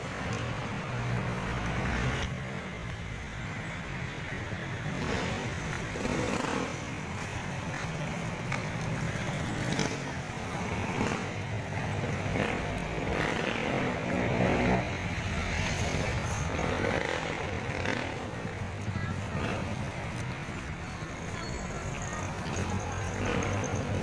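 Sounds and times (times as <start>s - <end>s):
city street noise: 0.0s - 24.0s
motorcycle and car engines: 0.0s - 24.0s.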